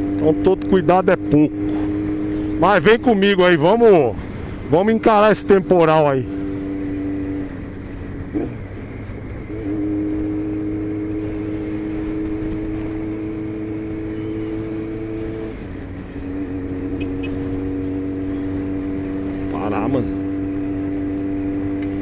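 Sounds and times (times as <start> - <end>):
motorcycle engine cruising: 0.0 - 22.0
road and wind noise: 0.0 - 22.0.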